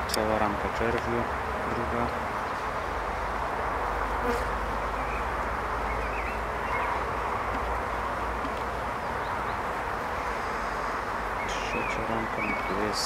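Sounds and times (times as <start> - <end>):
bees buzzing: 1.1 - 13.0.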